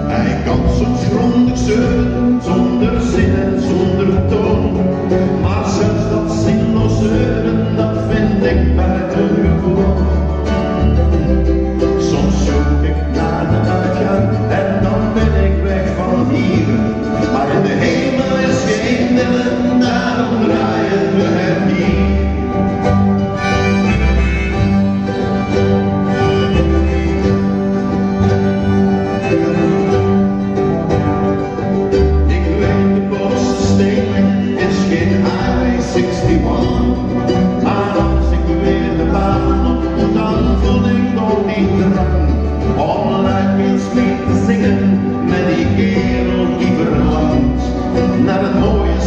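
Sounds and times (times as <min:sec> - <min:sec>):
acoustic guitars strumming: 0:00.0 - 0:49.0
double bass notes: 0:00.0 - 0:49.0
keyboard: 0:00.0 - 0:49.0.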